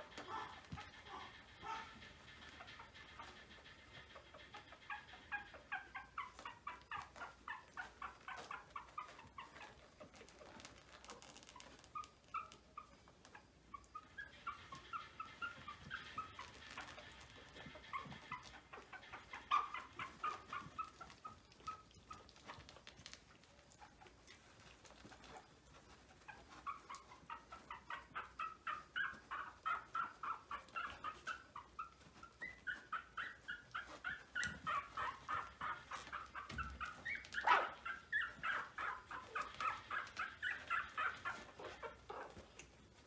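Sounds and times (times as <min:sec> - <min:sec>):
puppies whimpering: 0:00.0 - 0:43.0.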